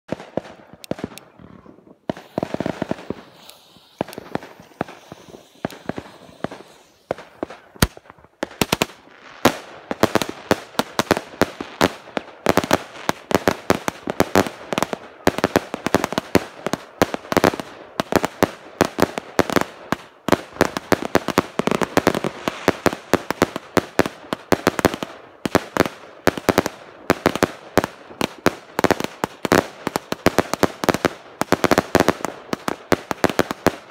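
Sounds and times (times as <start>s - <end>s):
firework bangs: 2.0s - 33.8s.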